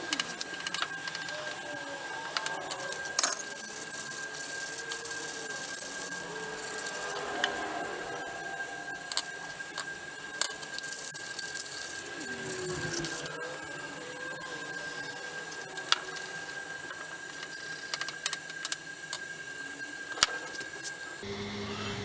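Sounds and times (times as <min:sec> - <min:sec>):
screwdriver scraping: 0:00.0 - 0:21.2
high-pitched hum: 0:00.0 - 0:22.0.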